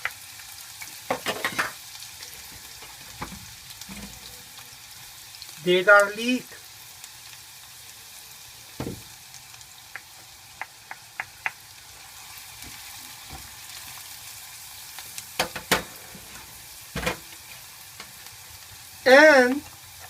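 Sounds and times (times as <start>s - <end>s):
onion and garlic sizzling in a pan: 0.0s - 20.0s.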